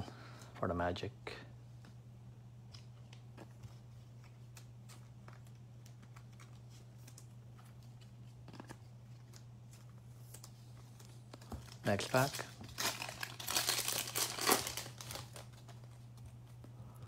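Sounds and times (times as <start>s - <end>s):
steady low hum: 0.0s - 17.0s
trading cards clicking and rustling: 2.6s - 16.4s.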